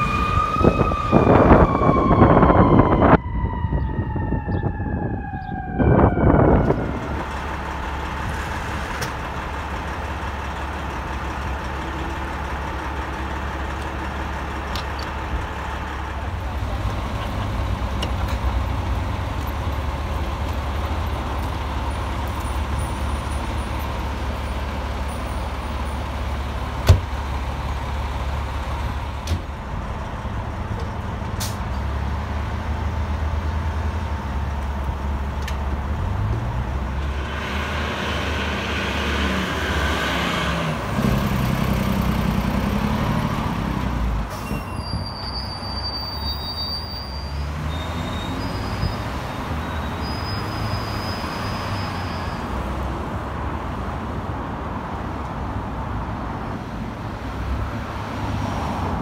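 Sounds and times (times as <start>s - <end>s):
diesel engine idling and revving: 4.5s - 59.0s.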